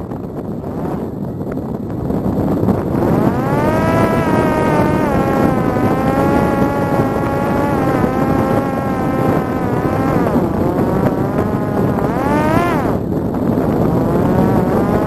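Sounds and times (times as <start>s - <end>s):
electric motor and propeller whining: 0.0s - 15.0s
wind rushing on microphone: 0.0s - 15.0s.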